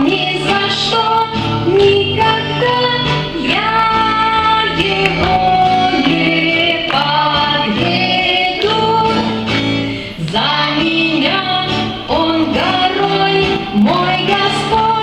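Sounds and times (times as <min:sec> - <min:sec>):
guitar accompaniment: 0:00.0 - 0:15.0
women singing: 0:00.0 - 0:15.0.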